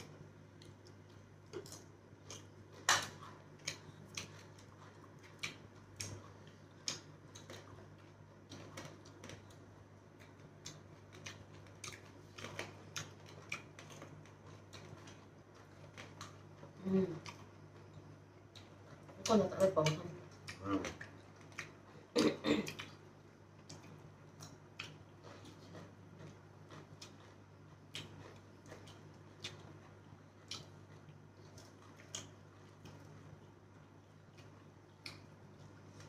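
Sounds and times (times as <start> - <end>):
chewing and mouth smacking: 0.0 - 9.6, 10.2 - 19.2, 19.8 - 23.0, 23.6 - 36.0
low steady hum: 0.0 - 36.0.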